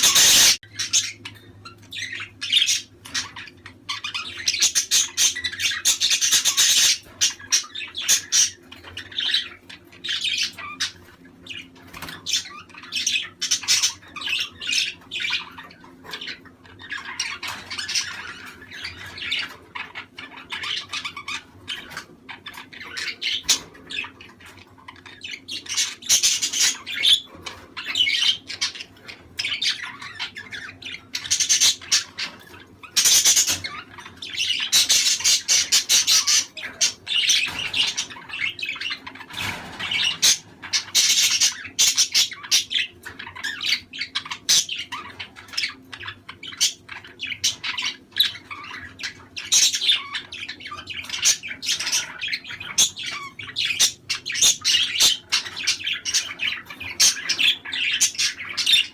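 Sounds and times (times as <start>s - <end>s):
budgerigars chattering: 0.0s - 58.9s.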